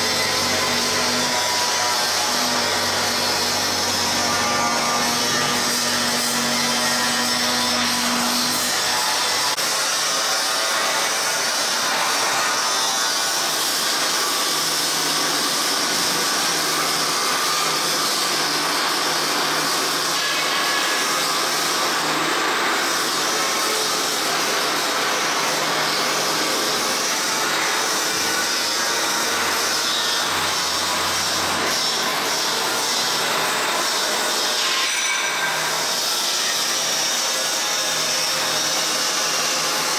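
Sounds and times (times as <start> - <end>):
sharpening machine whirring: 0.0 - 39.9.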